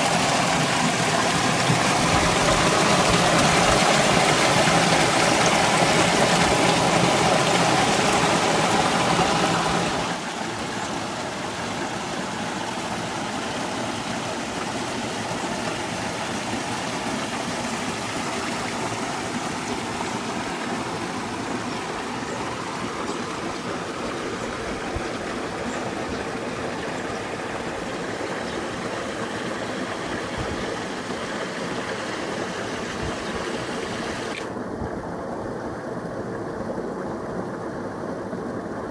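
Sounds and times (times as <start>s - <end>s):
spring water rushing: 0.0s - 38.9s.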